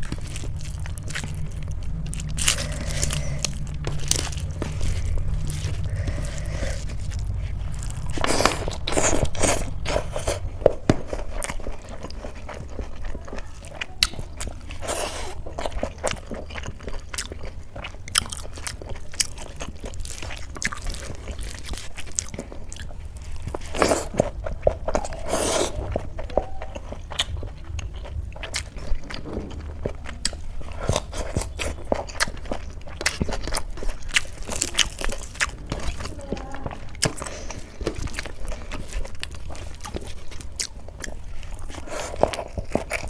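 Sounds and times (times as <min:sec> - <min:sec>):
chewing and crunching food: 0:00.0 - 0:43.0
steady low hum: 0:00.0 - 0:43.0.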